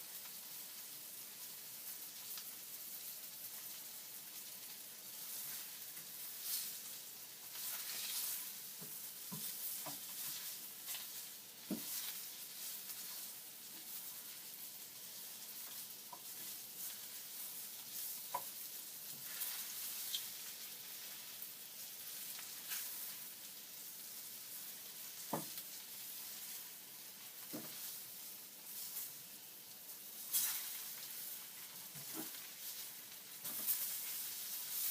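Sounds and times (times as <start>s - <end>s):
bacon sizzling in a pan: 0.0s - 34.9s.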